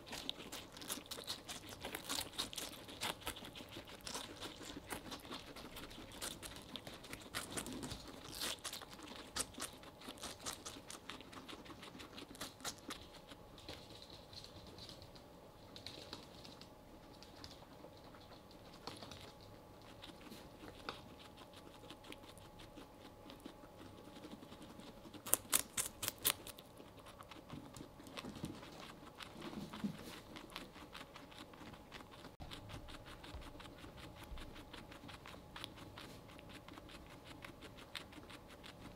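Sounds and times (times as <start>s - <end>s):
guinea pigs chewing watermelon: 0.0s - 38.9s.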